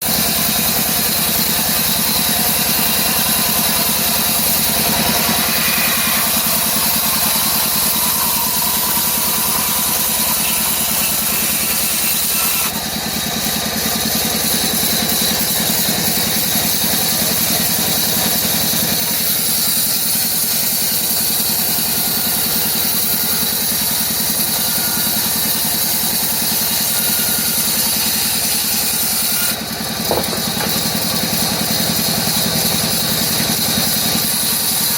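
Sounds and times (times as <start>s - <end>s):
router cutting wood: 0.0s - 34.9s.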